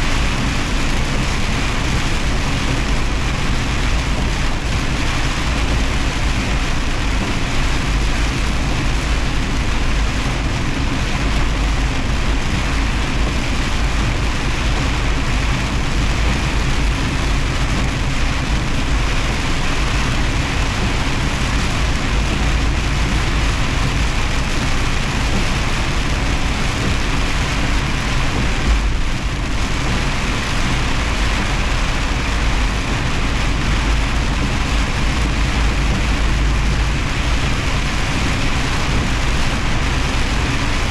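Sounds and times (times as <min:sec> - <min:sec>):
rain and tyre spray hiss: 0:00.0 - 0:40.9
truck engine and road rumble: 0:00.0 - 0:40.9.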